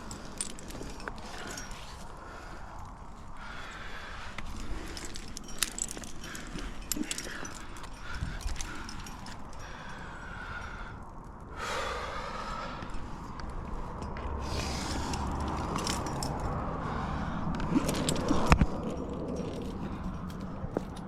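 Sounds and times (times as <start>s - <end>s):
climbing gear clinking on rock: 0.0s - 11.5s, 12.4s - 21.0s
heavy breathing: 0.0s - 21.0s.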